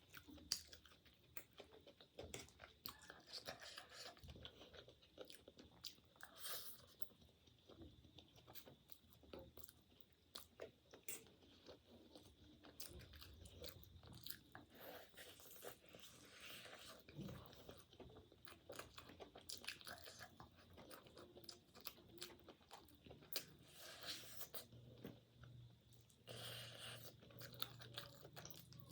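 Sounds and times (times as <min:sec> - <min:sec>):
chewing and crunching food: 0:00.0 - 0:28.9.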